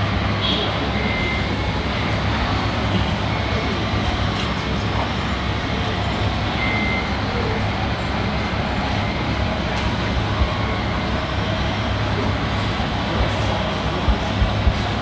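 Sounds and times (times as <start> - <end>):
model truck engine drone: 0.0 - 15.0.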